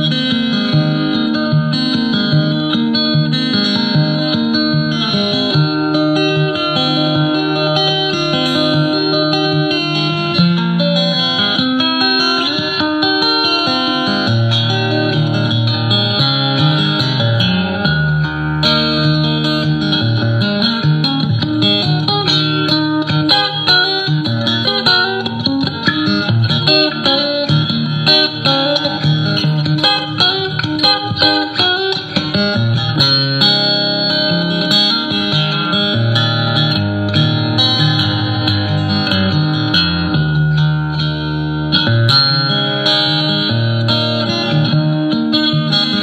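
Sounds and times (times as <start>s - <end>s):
picked acoustic guitar tune: 0.0s - 46.0s.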